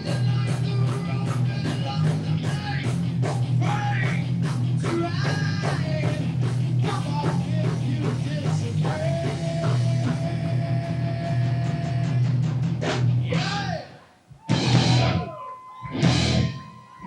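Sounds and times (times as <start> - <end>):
heavy metal band playing: 0.0 - 13.8, 14.5 - 17.0.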